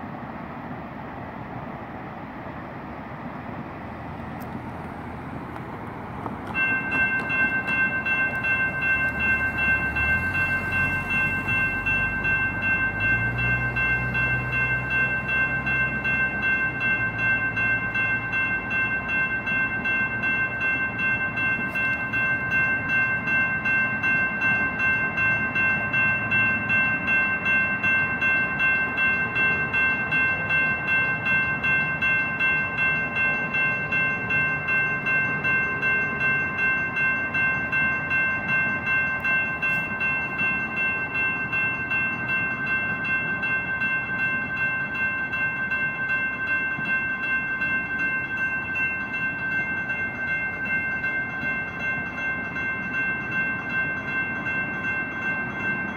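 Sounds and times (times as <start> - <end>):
railroad crossing bell dinging: 2.1 - 55.9.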